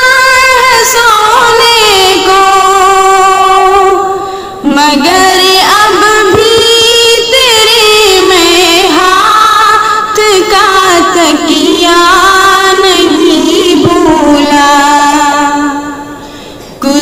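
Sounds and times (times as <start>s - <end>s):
song with long held sung notes: 0.0s - 17.0s.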